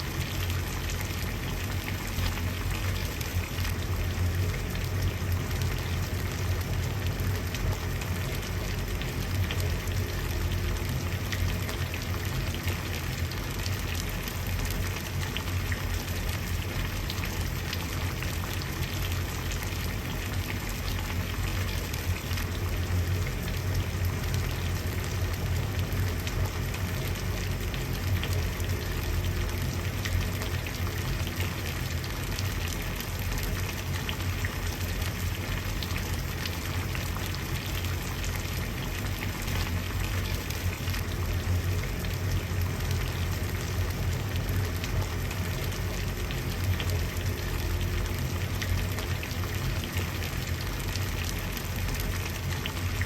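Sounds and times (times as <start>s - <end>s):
water boiling: 0.0s - 53.0s.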